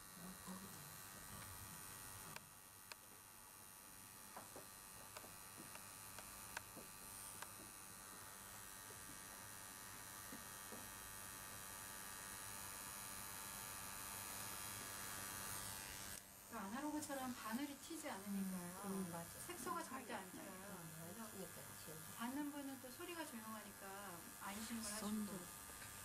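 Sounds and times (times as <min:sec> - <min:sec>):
tattoo machine humming: 0:00.0 - 0:26.0.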